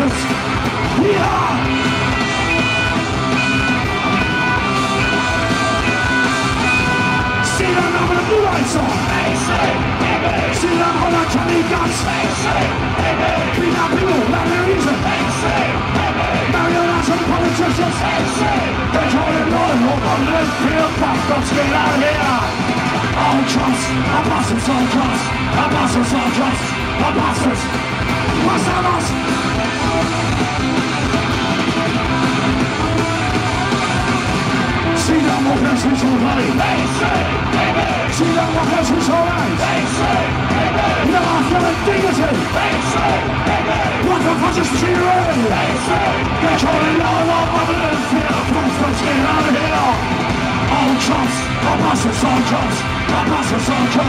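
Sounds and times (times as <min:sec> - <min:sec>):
punk rock band playing live: 0:00.0 - 0:54.0
shouted vocals: 0:00.0 - 0:54.0.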